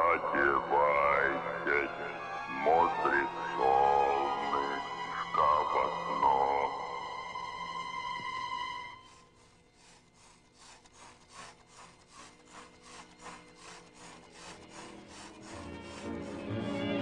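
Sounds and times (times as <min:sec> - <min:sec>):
rhythmic scraping strokes: 0:00.0 - 0:17.0.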